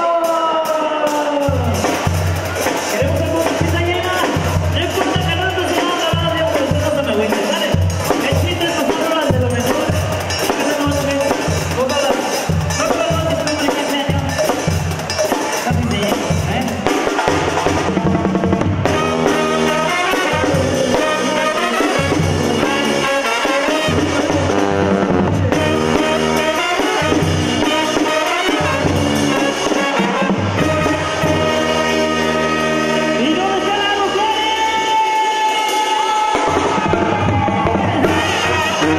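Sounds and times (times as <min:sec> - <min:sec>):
brass section playing: 0:00.0 - 0:38.9
drums and cymbal beat: 0:00.0 - 0:38.9.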